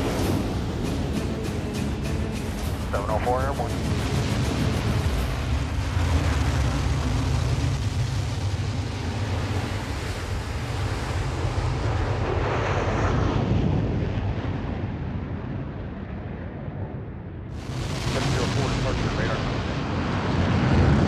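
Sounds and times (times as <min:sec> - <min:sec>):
jet engine roaring: 0:00.0 - 0:21.0.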